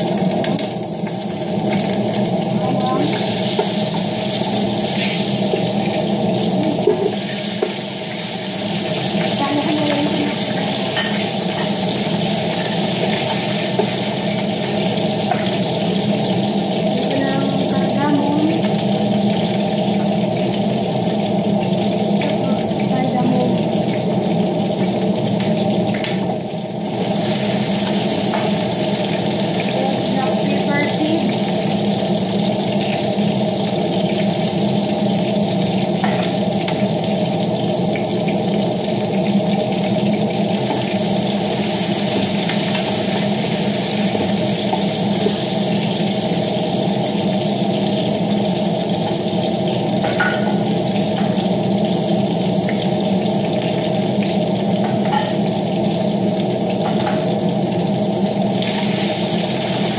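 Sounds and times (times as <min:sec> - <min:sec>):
range hood exhaust fan: 0:00.0 - 0:59.9.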